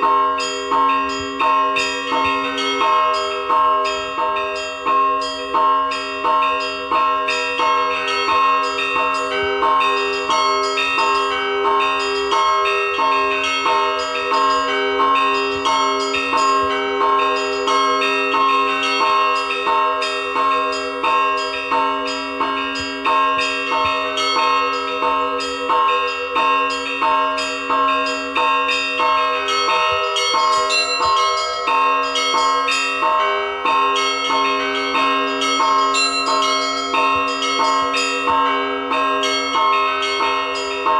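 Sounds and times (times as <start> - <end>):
church bells pealing: 0.0 - 40.9
low bell: 0.0 - 40.9.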